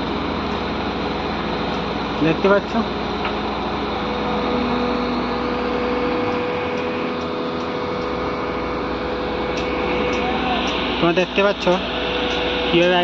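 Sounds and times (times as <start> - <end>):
crane diesel engines droning: 0.0 - 13.0
steady whine: 0.0 - 13.0.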